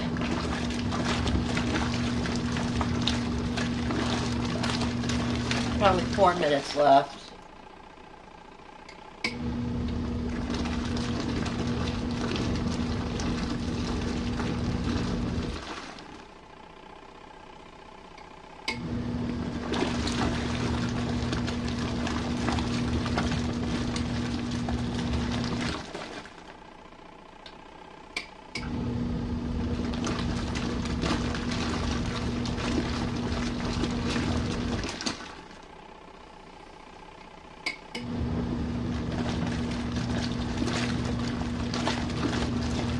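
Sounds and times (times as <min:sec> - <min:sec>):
washing machine agitating: 0:00.0 - 0:08.1, 0:08.8 - 0:42.9.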